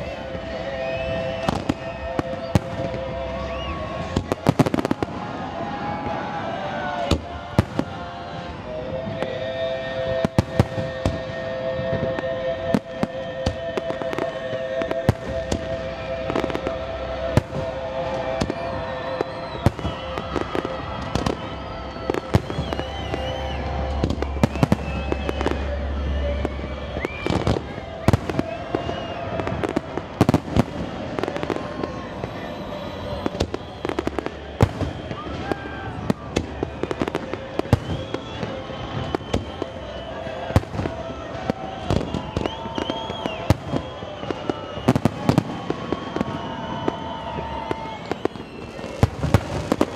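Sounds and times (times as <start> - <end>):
fireworks crackle and rumble: 0.0 - 49.9.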